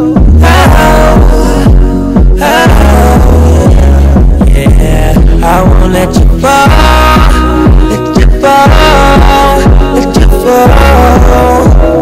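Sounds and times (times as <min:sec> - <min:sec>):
deep thudding beat: 0:00.0 - 0:12.0
electronic pop music: 0:00.0 - 0:12.0.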